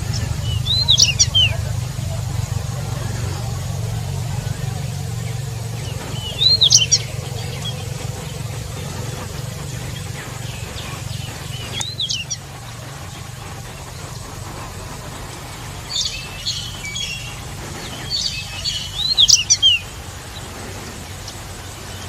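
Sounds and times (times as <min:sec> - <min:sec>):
bird whistling song: 0:00.0 - 0:22.0
steady low hum: 0:00.0 - 0:22.0.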